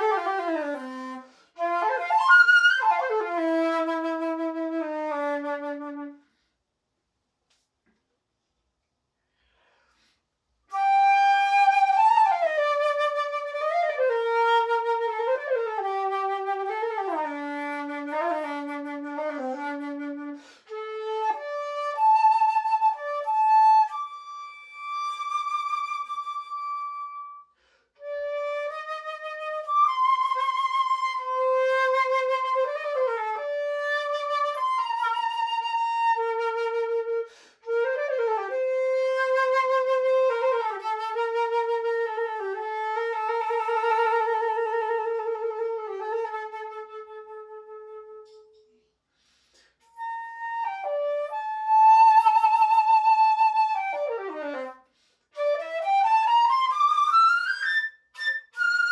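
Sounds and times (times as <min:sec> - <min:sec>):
solo flute melody: 0:00.0 - 0:06.4, 0:10.6 - 0:48.8, 0:49.8 - 0:58.9.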